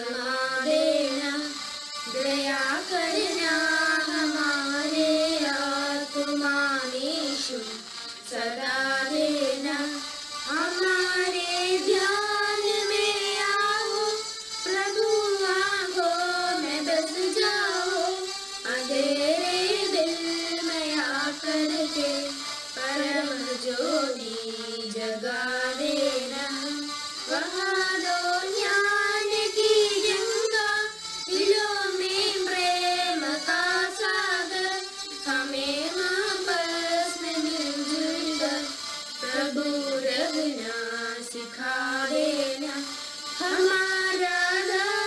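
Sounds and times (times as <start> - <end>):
child singing: 0.0 - 45.0.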